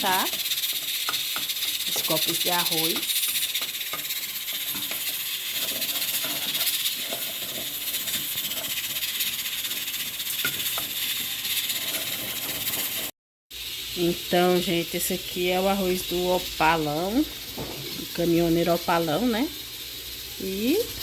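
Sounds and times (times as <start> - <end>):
rice sizzling in hot oil: 0.0 - 21.0.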